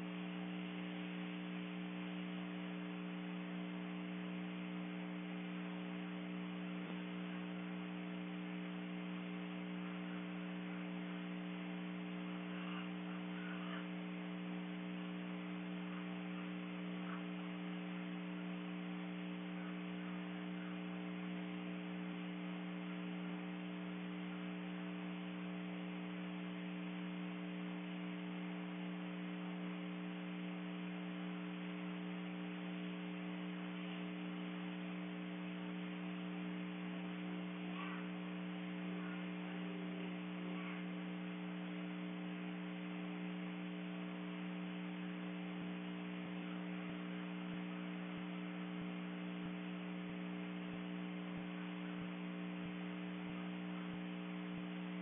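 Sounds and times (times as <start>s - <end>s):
low hum with overtones: 0.0s - 55.0s.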